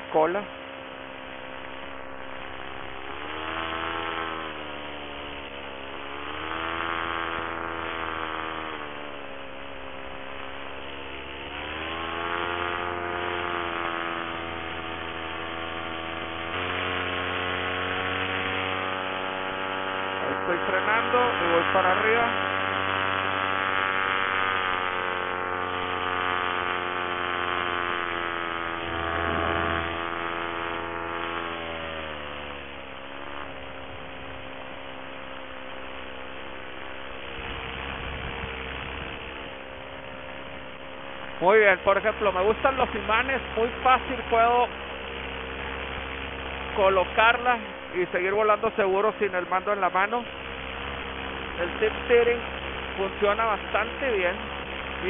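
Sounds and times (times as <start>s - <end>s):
paramotor engine buzzing drone: 0.0s - 55.0s.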